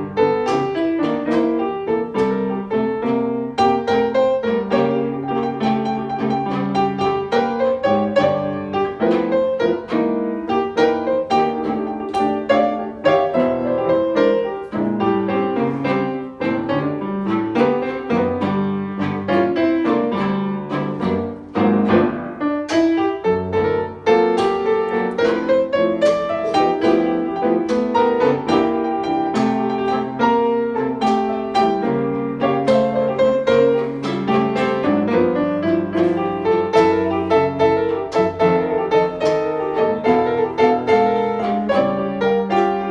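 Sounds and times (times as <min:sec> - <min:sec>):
solo piano music: 0:00.0 - 0:42.9.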